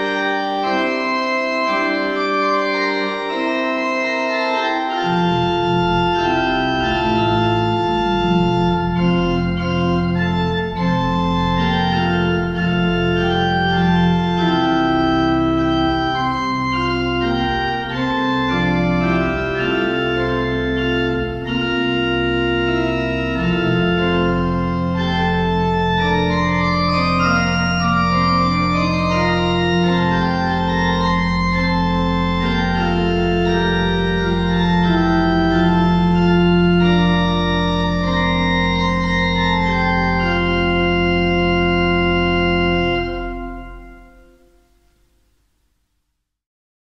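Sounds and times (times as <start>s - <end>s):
pipe organ playing chords: 0.0s - 45.2s.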